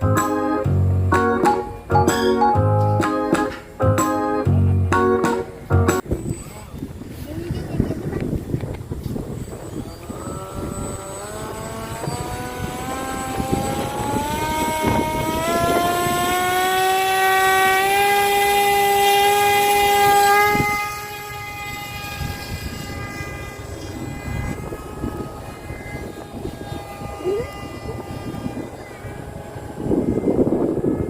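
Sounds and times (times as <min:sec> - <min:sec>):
model airplane motor whining: 0:06.0 - 0:31.0.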